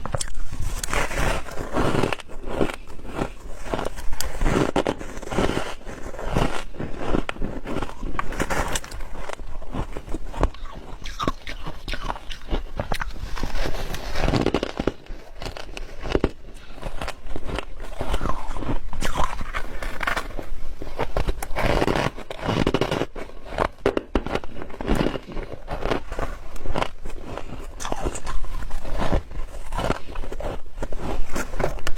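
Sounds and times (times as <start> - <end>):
chewing: 0.0 - 1.0, 1.6 - 31.9
ice crunching in mouth: 0.0 - 31.9.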